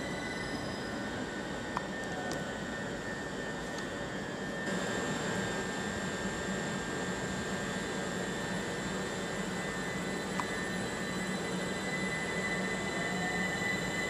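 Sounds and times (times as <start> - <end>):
electric train hiss and whine: 0.0 - 14.0.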